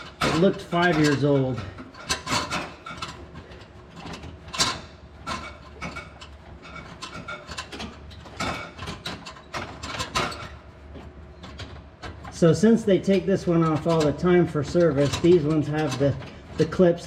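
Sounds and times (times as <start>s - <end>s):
hand tools clicking and scraping: 0.0s - 17.0s.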